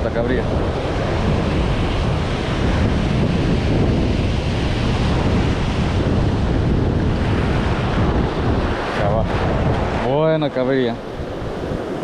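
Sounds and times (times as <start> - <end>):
surf breaking over rocks: 0.0 - 12.0
wind buffeting microphone: 0.0 - 12.0.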